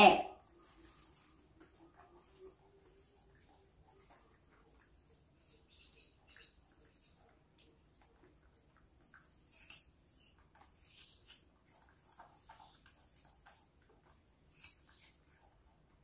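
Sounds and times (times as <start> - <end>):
food handled and eaten: 0.4 - 16.0.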